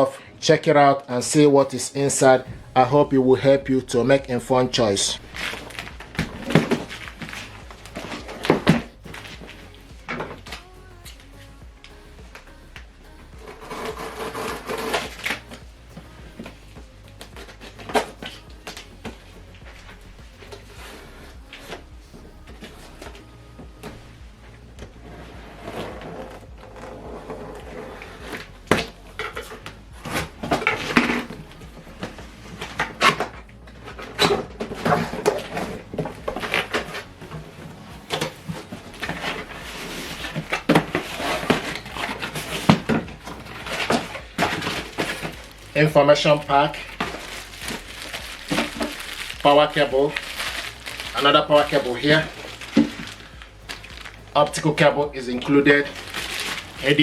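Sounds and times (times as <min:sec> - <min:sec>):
knocks scrapes and rustling: 0:01.6 - 0:57.0
box and packaging being opened: 0:01.7 - 0:57.0.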